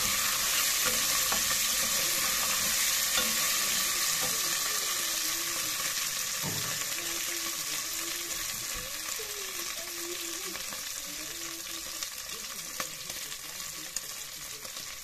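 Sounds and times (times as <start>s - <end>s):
beef sizzling in a pot: 0.0s - 15.0s.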